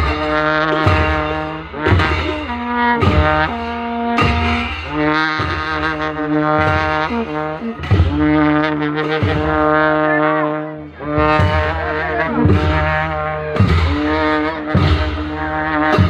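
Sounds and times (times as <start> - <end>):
long brass horns: 0.0 - 16.0
sharp drum strokes: 0.0 - 16.0.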